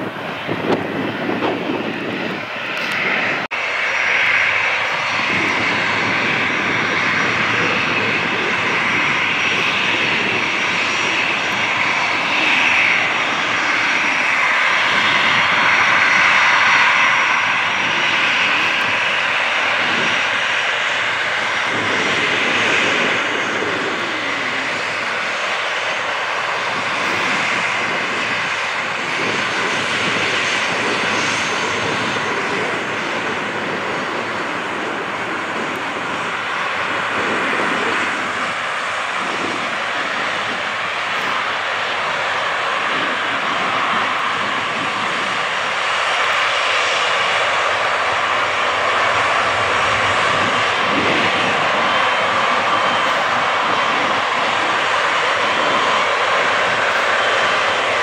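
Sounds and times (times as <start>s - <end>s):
departing jet noise: 0.0s - 58.0s
jet engines running: 0.0s - 58.0s.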